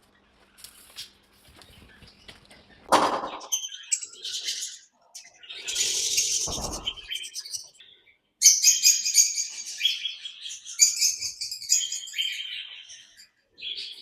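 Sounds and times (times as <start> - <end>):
parrots chirping and chattering: 1.7 - 14.0.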